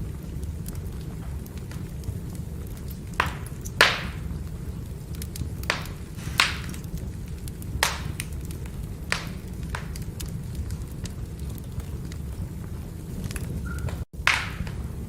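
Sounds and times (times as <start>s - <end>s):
firewood crackling: 0.0s - 15.0s
low rumble of flames: 0.0s - 15.0s.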